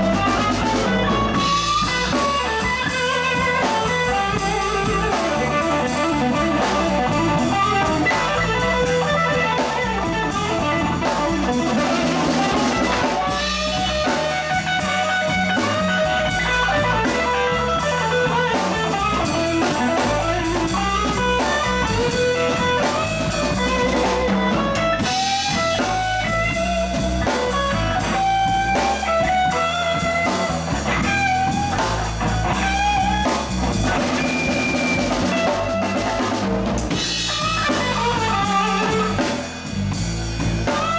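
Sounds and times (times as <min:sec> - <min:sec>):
drum kit: 0:00.0 - 0:40.9
electric bass: 0:00.0 - 0:40.9
electric guitar lead: 0:00.0 - 0:40.9.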